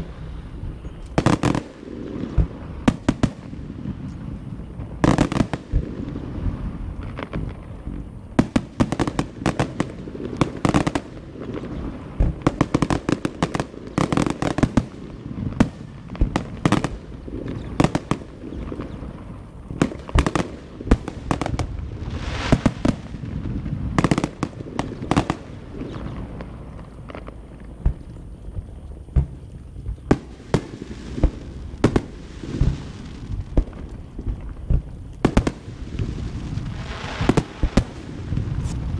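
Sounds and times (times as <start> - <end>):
fireworks bangs and crackles: 0.0 - 38.9
fireworks hissing rush: 0.0 - 38.9.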